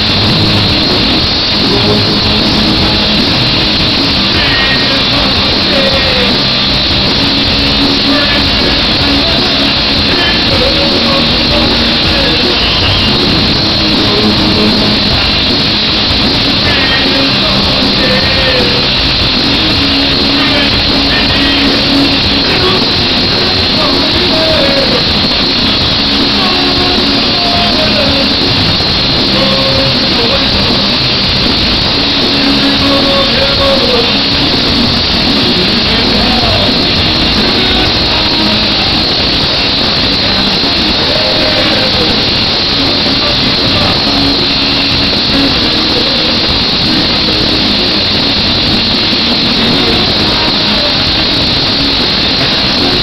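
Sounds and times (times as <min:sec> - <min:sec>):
bass guitar: 0:00.0 - 0:53.0
drums: 0:00.0 - 0:53.0
electric guitars: 0:00.0 - 0:53.0
punk band playing live: 0:00.0 - 0:53.0.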